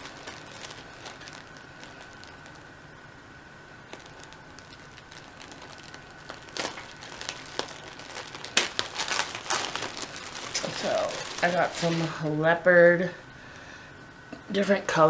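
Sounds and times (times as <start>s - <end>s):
plastic packaging crinkling: 0.0s - 12.5s.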